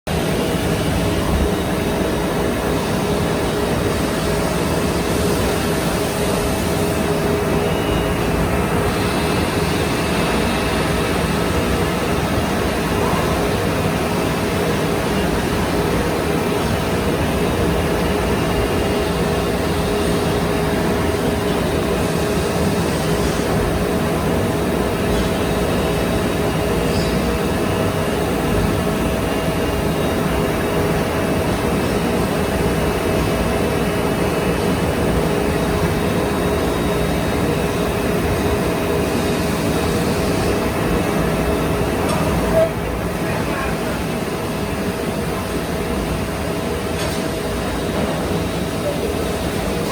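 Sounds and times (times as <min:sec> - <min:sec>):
machine humming with steady tones: 0:00.1 - 0:49.9.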